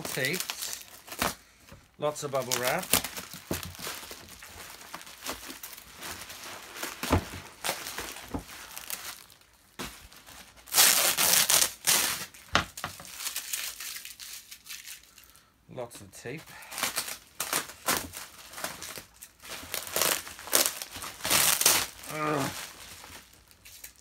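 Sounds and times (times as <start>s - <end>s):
plastic crinkling and rustling: 0.0s - 15.4s, 16.4s - 24.0s.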